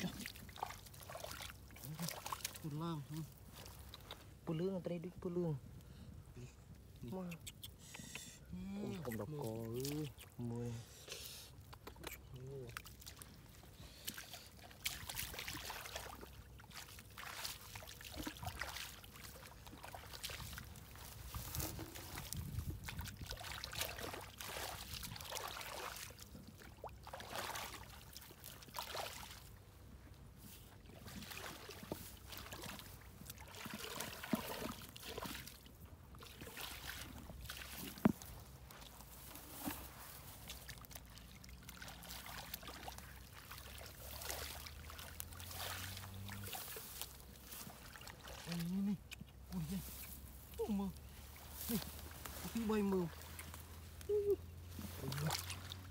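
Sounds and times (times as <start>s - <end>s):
hands sloshing in muddy water: 0.0s - 4.5s, 8.8s - 10.6s, 11.5s - 55.9s.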